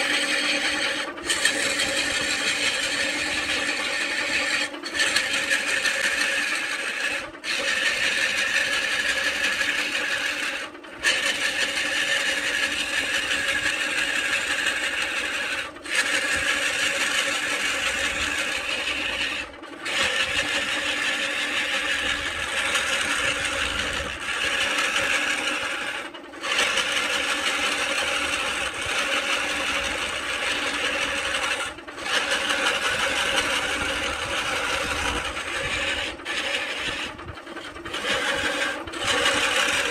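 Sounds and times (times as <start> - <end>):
lathe motor humming: 0.0 - 39.9
lathe tool scraping wood: 0.0 - 39.9.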